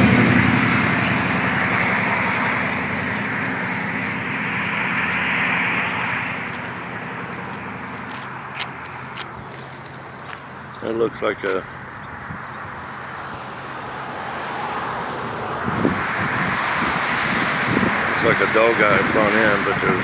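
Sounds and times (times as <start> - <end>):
road noise: 0.0 - 20.0
vehicle engine running: 0.0 - 20.0.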